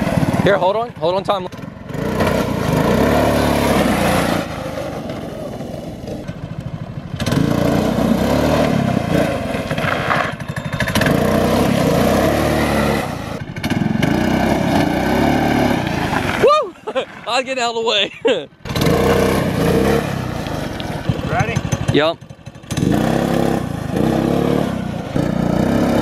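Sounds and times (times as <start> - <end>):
small gas engine revving: 0.0 - 17.2, 18.6 - 26.0.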